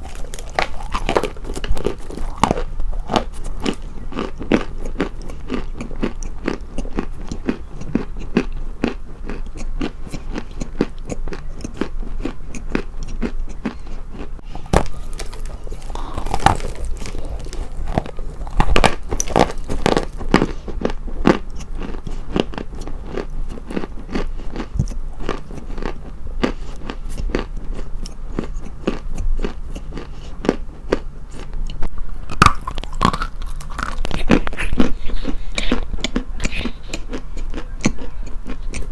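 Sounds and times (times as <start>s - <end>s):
crisp crunching: 0.0s - 31.5s, 32.2s - 38.9s.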